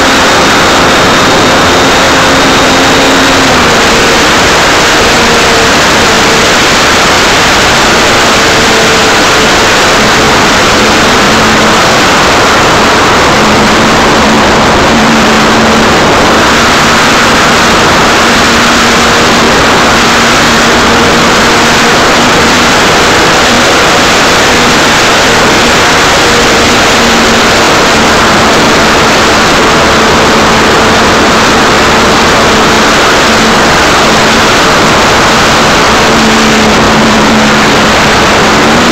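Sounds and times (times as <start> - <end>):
model plane propeller drone: 0.0 - 38.9.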